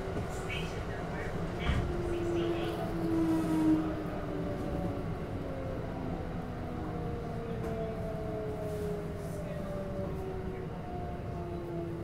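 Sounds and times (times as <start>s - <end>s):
low train running rumble: 0.0s - 12.0s.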